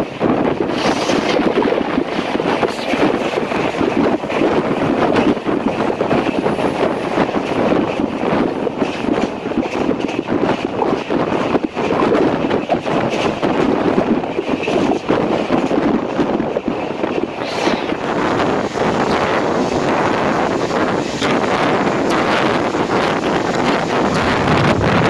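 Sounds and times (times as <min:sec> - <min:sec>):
train rushing at speed: 0:00.0 - 0:25.0
wind buffeting microphone: 0:00.0 - 0:25.0.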